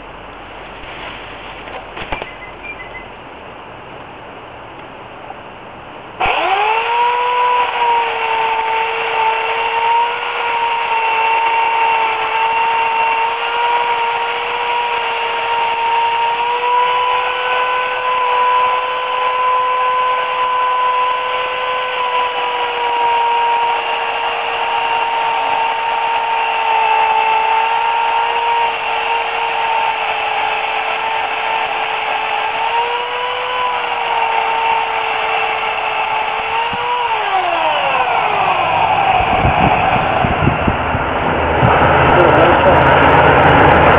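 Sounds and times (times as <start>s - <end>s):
electric chainsaw cutting wood: 6.2s - 43.9s.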